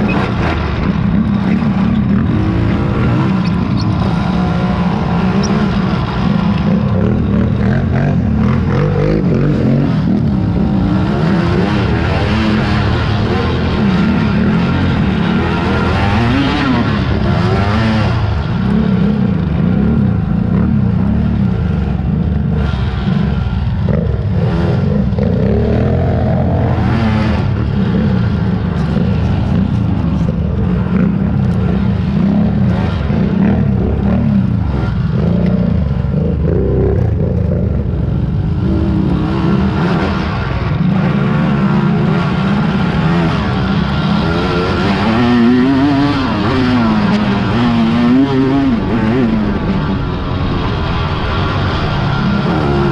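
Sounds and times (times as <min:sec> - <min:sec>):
racing quad engines revving: 0:00.0 - 0:52.9.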